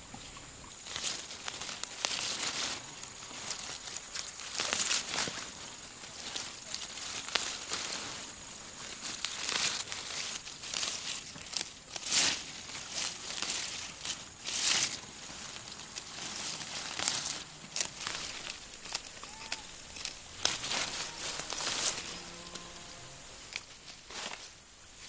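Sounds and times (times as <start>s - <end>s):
leaves rustling and crinkling: 0.0s - 25.0s.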